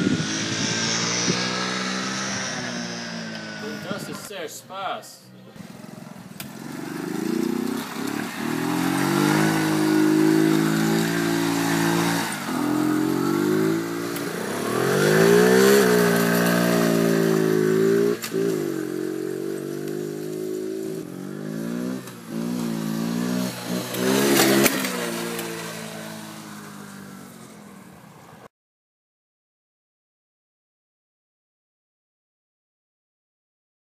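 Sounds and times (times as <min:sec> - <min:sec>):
minibike engine revving: 0:00.0 - 0:04.4, 0:05.6 - 0:28.4.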